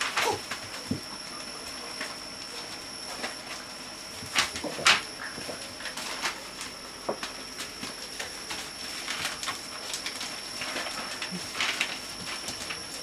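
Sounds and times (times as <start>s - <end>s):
newspaper crackling under paws: 0.0s - 13.0s.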